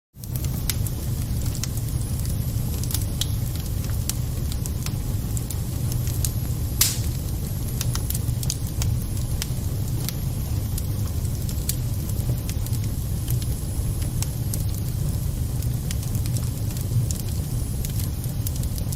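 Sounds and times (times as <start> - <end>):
low rumble of flames: 0.2 - 18.9
wood crackling and popping: 0.2 - 18.9.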